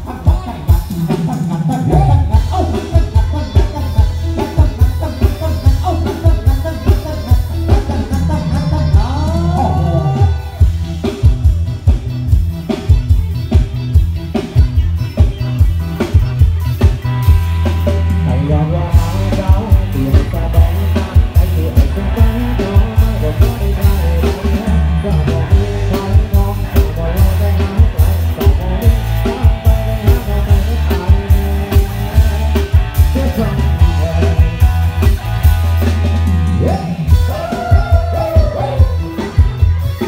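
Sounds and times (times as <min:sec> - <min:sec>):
drum kit beat: 0:00.0 - 0:40.0
electric guitars: 0:00.0 - 0:40.0
heavy bass: 0:00.0 - 0:40.0.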